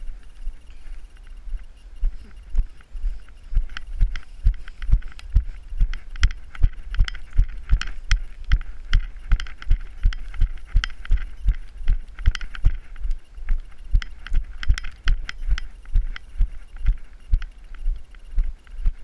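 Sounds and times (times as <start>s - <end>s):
jogging footsteps on grass: 0.0s - 19.0s.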